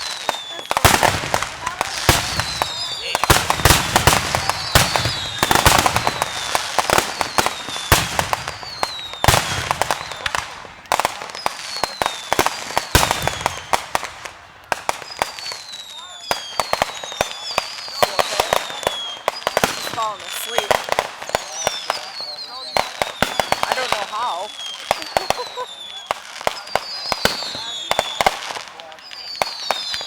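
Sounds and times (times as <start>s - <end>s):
firework bangs and crackling: 0.0s - 30.0s.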